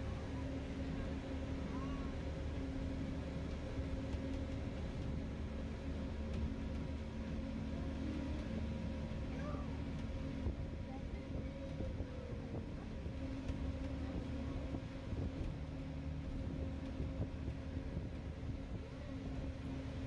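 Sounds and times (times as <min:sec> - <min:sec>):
monorail rumble: 0:00.0 - 0:20.0.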